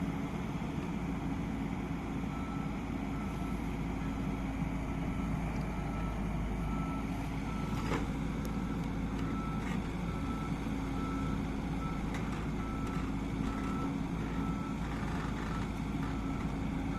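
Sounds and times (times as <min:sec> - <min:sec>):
diesel engine running: 0:00.0 - 0:16.9
reversing alarm beeping: 0:02.3 - 0:08.0, 0:08.6 - 0:16.9.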